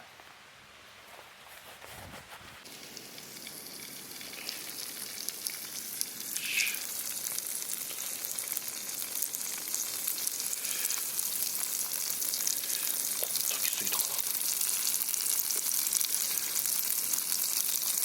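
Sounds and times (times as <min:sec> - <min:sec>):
food sizzling in a pan: 0:02.6 - 0:18.0.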